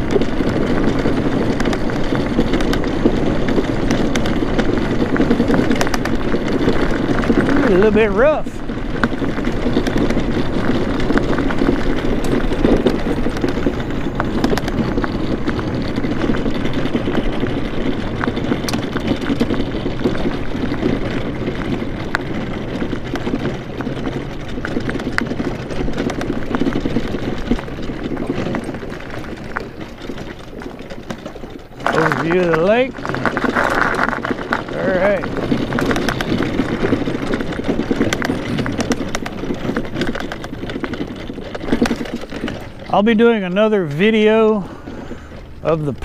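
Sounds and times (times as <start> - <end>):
small rattles and clicks: 0.0 - 46.0
tyres rolling over rough asphalt: 0.0 - 46.0.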